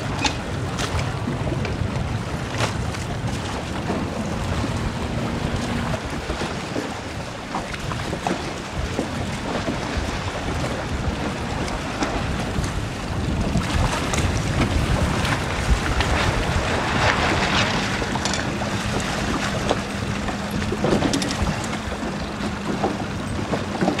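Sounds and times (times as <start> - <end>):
choppy water slapping hull: 0.0 - 24.0
wind buffeting microphone: 0.0 - 24.0.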